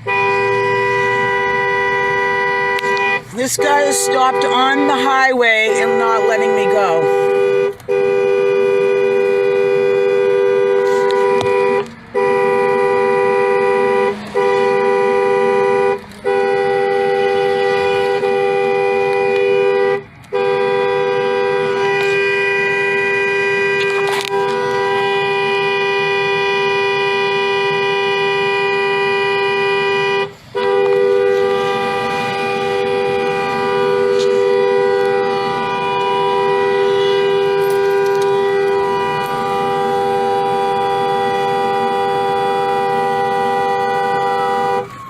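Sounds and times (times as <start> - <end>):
car horn blasts: 0.0 - 45.0.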